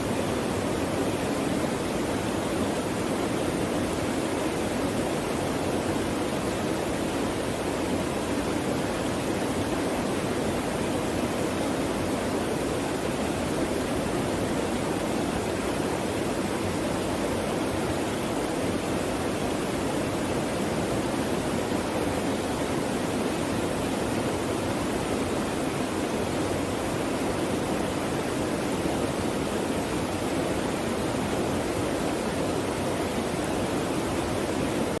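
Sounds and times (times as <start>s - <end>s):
stream water flowing and splashing: 0.0s - 35.0s.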